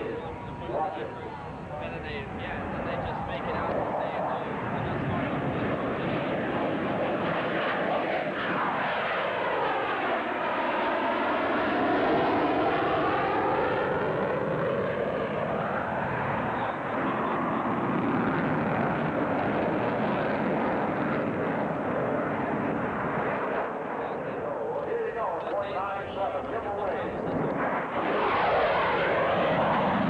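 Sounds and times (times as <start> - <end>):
jet engines passing: 0.0 - 30.0.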